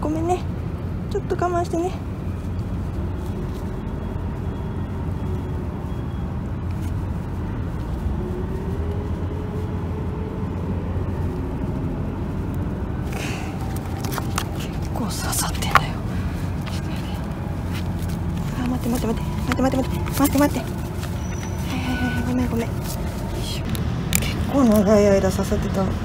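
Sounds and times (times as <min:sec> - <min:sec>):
faint engine tone: 0:00.0 - 0:26.0
road traffic rumble: 0:00.0 - 0:26.0.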